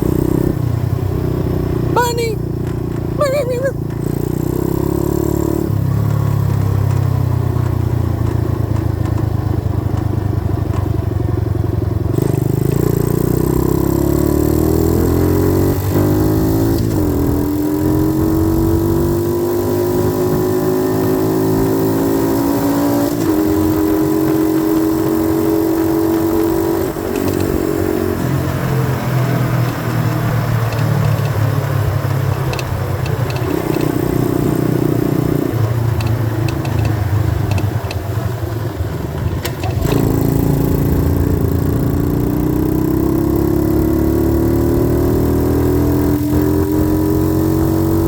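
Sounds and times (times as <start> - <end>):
dirt bike engine accelerating: 0.0 - 11.0, 12.1 - 48.0.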